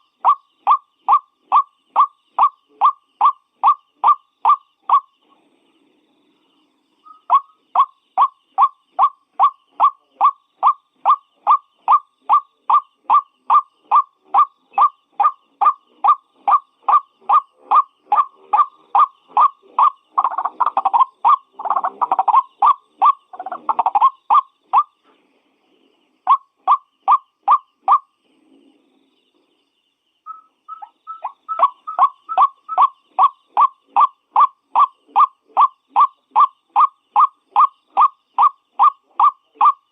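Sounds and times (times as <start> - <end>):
waterhen croaking calls: 0.0 - 5.1, 7.0 - 24.9, 26.3 - 28.1, 30.3 - 39.9.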